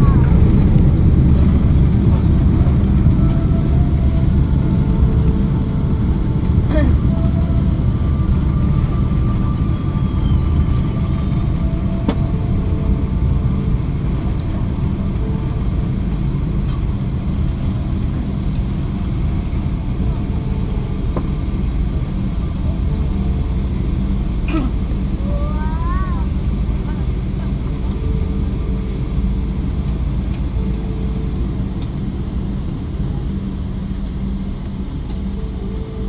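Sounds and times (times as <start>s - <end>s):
faint hum: 0.0s - 36.0s
low rumble inside aircraft cabin: 0.0s - 36.0s.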